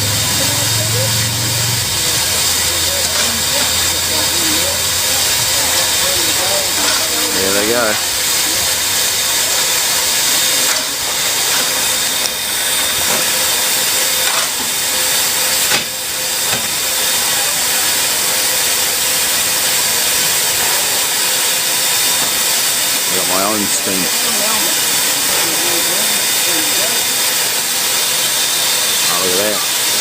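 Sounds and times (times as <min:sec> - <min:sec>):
steam locomotive hissing steam: 0:00.0 - 0:30.0.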